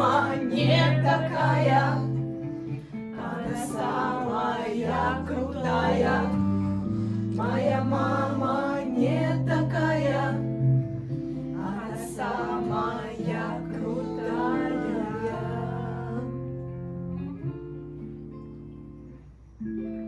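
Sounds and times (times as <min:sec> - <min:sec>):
people singing together: 0:00.0 - 0:16.7
acoustic guitar chords: 0:00.0 - 0:20.0.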